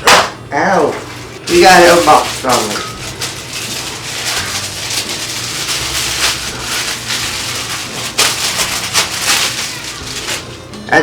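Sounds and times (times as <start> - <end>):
packaging crinkling and rustling: 0.8 - 10.8.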